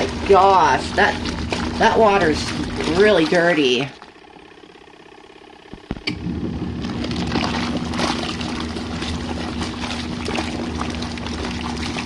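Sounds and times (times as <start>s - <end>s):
washing machine motor hum: 0.0s - 12.0s
water sloshing in tub: 0.0s - 12.0s.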